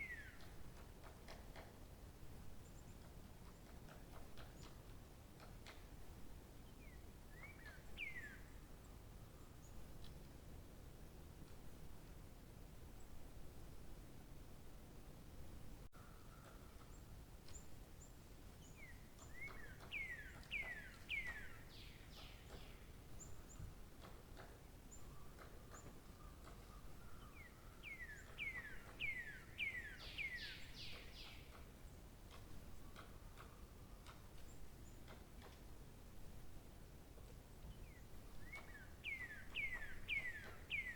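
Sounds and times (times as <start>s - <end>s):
songbird singing: 0.0s - 10.6s, 15.8s - 40.9s.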